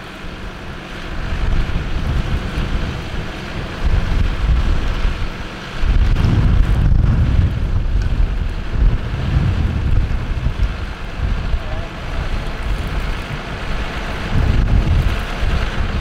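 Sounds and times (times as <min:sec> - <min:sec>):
tractor engine running: 0:00.0 - 0:16.0
wind buffeting microphone: 0:00.0 - 0:16.0.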